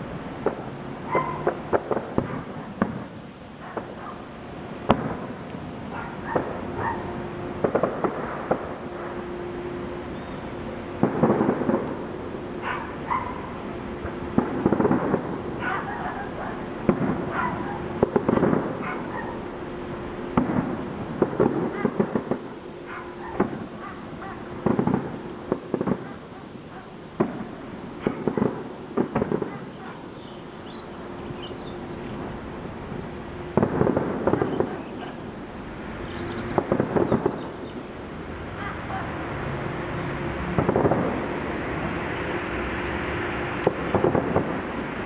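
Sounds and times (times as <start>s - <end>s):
fireworks bangs and crackling: 0.0s - 45.0s
steady low hum: 0.0s - 45.0s.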